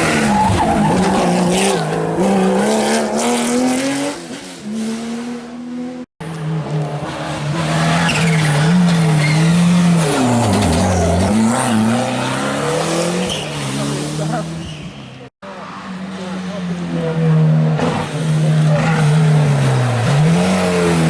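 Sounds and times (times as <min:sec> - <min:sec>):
rally car engines revving: 0:00.0 - 0:21.0.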